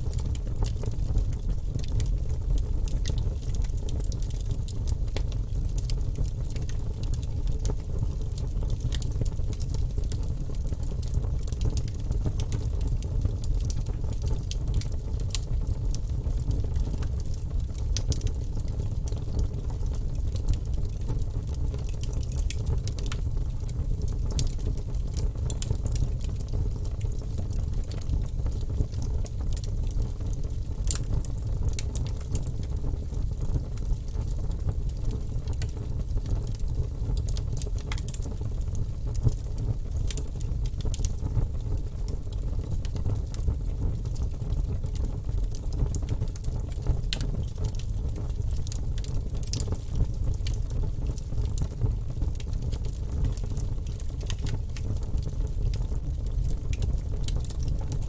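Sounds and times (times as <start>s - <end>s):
fire crackles and pops: 0.0s - 58.0s
rumble of fire flames: 0.0s - 58.0s.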